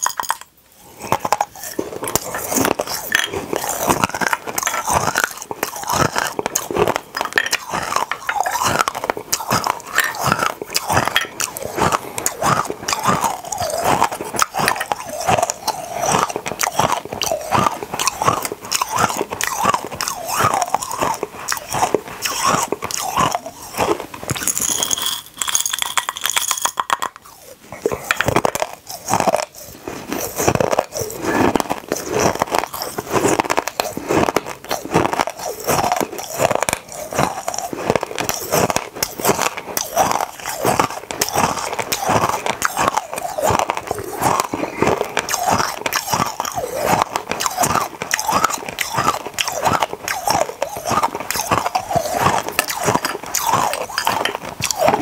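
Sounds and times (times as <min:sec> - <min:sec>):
hard candy crunching in mouth: 0:00.0 - 0:55.0.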